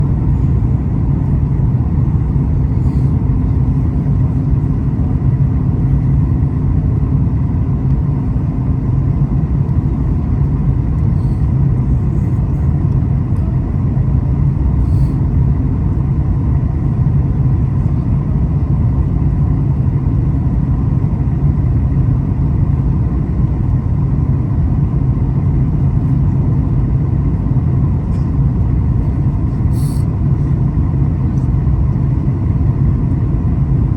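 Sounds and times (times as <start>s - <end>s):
airliner engines rumbling in cabin: 0.0s - 33.9s
faint steady hum: 0.0s - 33.9s.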